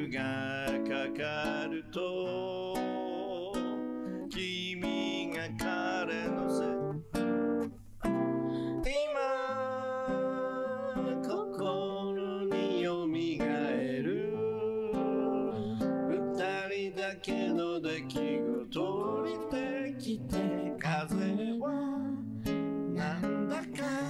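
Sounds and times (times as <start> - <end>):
man singing slow song: 0.0 - 7.0, 8.7 - 22.3, 22.9 - 24.0
acoustic guitar: 0.0 - 24.0.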